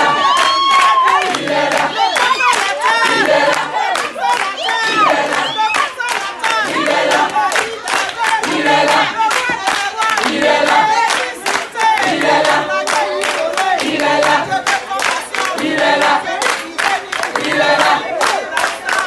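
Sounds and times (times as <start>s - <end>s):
group singing: 0.0s - 19.0s
handclapping in time: 0.0s - 19.0s.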